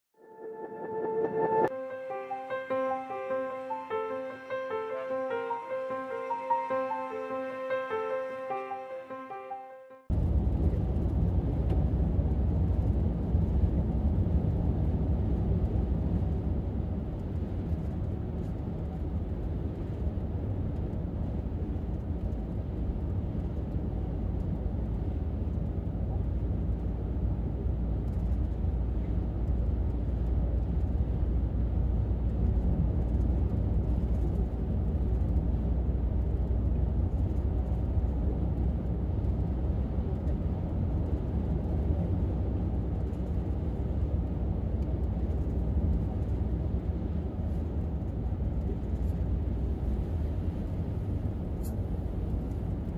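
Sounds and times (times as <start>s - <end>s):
road and engine rumble in car: 10.1s - 52.9s.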